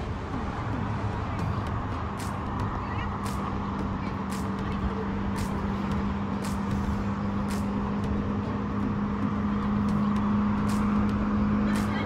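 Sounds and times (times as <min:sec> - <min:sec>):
constant low hum: 0:00.0 - 0:12.0
highway traffic noise: 0:00.0 - 0:12.0.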